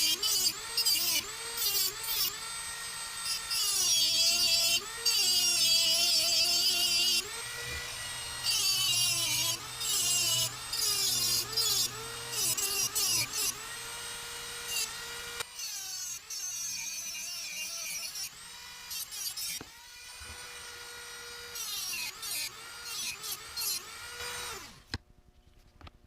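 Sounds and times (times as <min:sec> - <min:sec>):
rotary tool cutting metal: 0:00.0 - 0:25.0.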